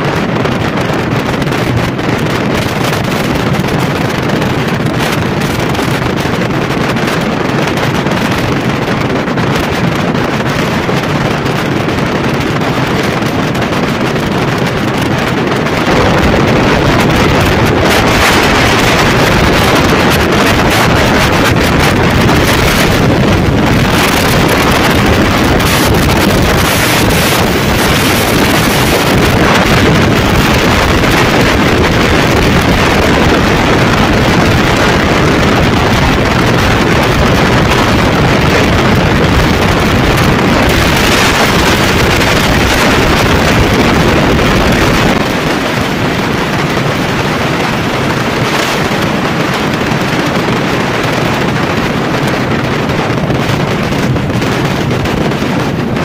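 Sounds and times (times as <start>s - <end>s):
motorcycle road and engine noise: 0.0s - 56.0s
wind buffeting microphone: 0.0s - 56.0s.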